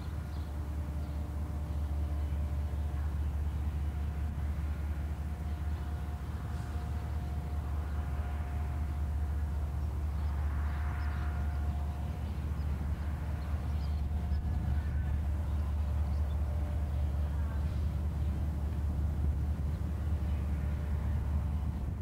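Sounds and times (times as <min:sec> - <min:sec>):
faint steady tone: 0:00.0 - 0:22.0
train rumbling: 0:00.0 - 0:22.0
wind buffeting microphone: 0:00.0 - 0:22.0.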